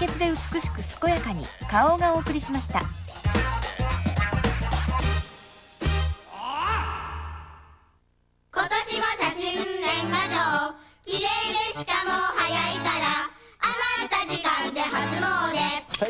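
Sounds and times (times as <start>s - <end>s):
music: 0.0s - 6.3s, 8.6s - 16.0s.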